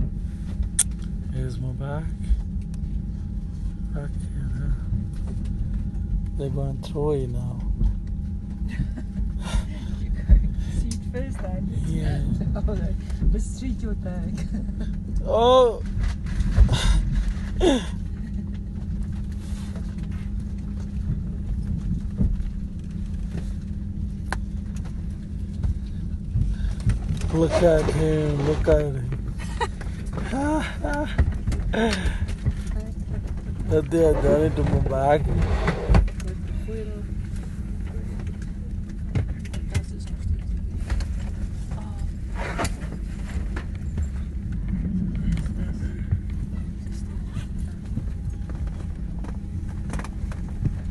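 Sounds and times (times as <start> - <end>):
low mechanical hum: 0.0 - 50.9
machinery rumble: 0.0 - 50.9.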